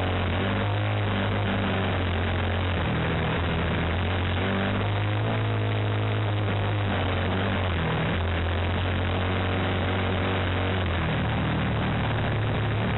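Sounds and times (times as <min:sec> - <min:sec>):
propeller: 0:00.0 - 0:12.9.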